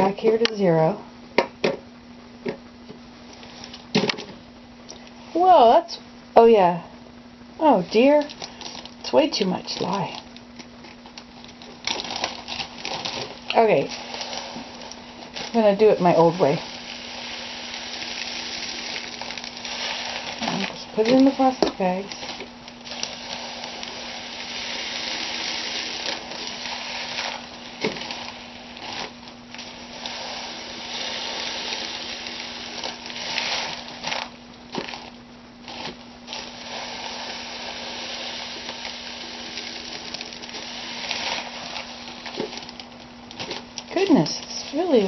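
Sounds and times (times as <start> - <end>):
steady hiss: 0.0 - 45.0
plastic bags rustling: 3.2 - 5.4, 7.6 - 45.0
powder being poured: 8.2 - 45.0.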